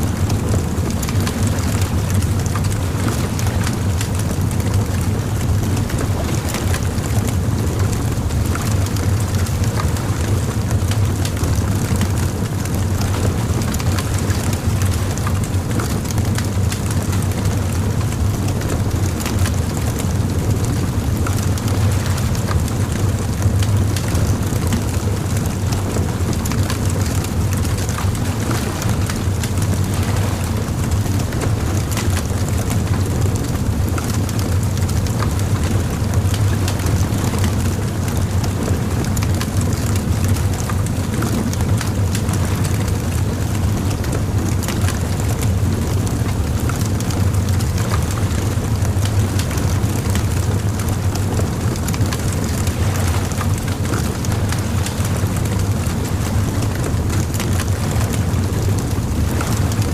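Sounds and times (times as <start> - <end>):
bonfire crackling and popping: 0.2 - 9.9, 10.5 - 59.9.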